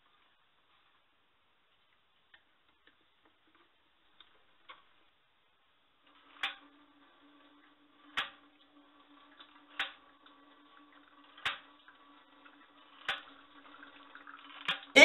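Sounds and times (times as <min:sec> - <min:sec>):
faint water-driven hum: 0:00.0 - 0:15.0.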